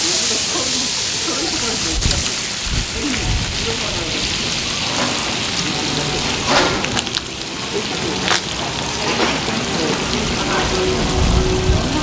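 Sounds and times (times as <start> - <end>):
pancake sizzling on a griddle: 0.0 - 12.0.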